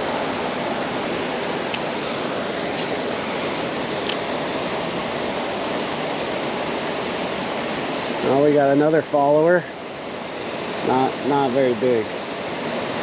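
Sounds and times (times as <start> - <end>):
waterfall roar: 0.0 - 13.0.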